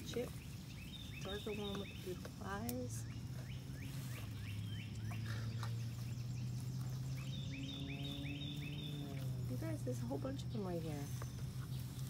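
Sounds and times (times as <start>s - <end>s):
small animals chirping: 0.0s - 12.0s.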